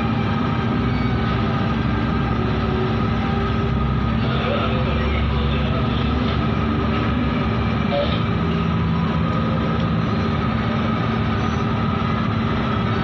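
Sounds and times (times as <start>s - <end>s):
heavy diesel engines droning: 0.0s - 13.0s.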